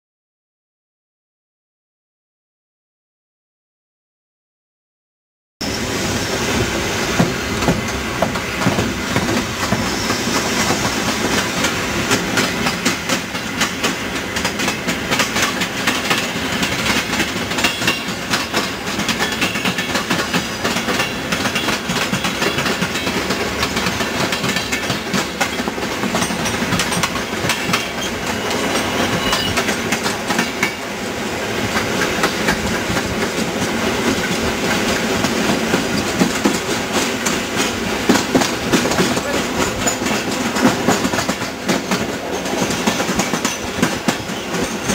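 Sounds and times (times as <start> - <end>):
steady train rolling noise: 5.6 - 44.9
train wheels clattering over rail joints: 7.1 - 30.9, 31.6 - 44.9.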